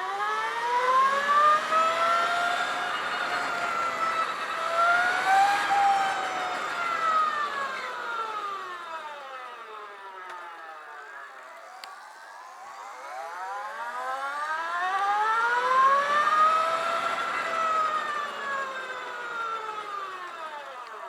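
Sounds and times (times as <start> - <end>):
electric motorcycle motor whine: 0.0 - 21.0.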